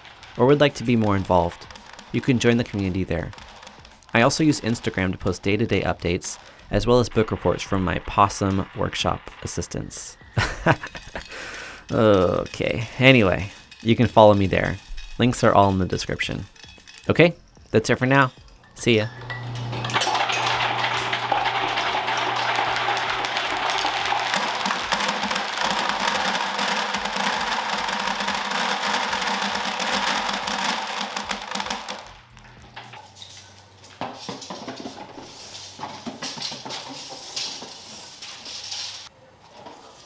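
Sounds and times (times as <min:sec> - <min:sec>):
glass marbles clattering: 0:00.0 - 0:33.2.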